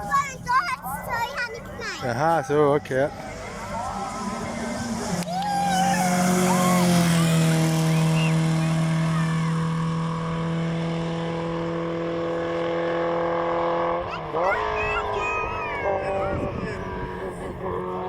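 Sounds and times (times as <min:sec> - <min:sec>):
racing car engine at steady revs: 0:02.2 - 0:14.8, 0:16.0 - 0:18.0.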